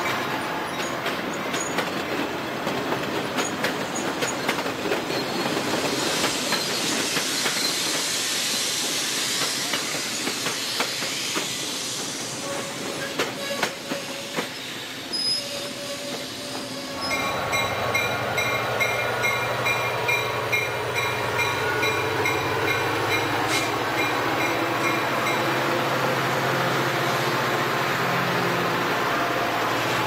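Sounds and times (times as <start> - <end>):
train wheels rushing on rail: 0.0 - 30.0.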